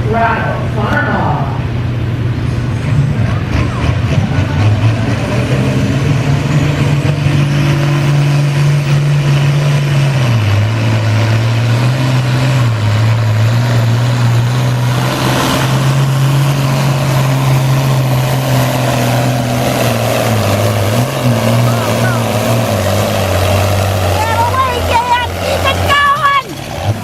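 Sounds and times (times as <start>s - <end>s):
tractor engine running hard: 0.0s - 27.0s.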